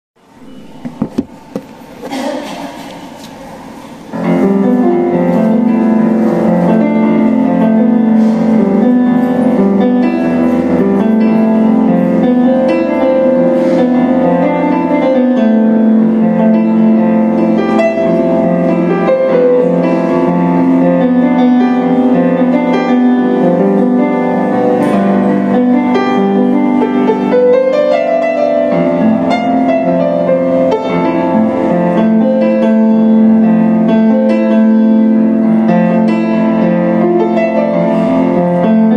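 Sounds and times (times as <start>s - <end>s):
grand piano playing: 0.2s - 38.9s.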